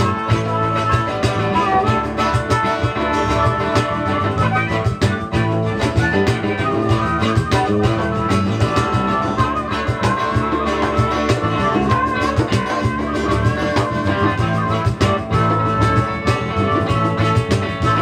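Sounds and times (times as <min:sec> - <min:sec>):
harmonica wavering notes: 0:00.0 - 0:18.0
live band playing: 0:00.0 - 0:18.0.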